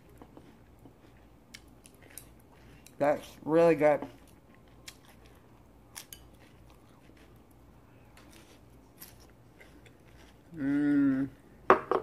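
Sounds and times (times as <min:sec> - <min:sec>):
eating with chopsticks: 0:00.0 - 0:11.4
low steady hum: 0:00.0 - 0:12.0.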